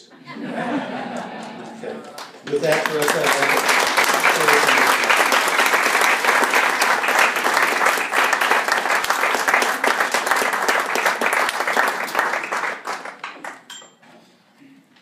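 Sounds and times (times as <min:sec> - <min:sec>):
audience applauding: 0:01.0 - 0:13.7.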